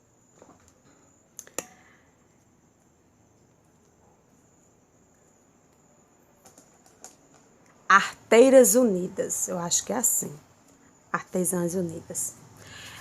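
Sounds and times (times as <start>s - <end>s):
cricket trill: 0.0s - 13.0s.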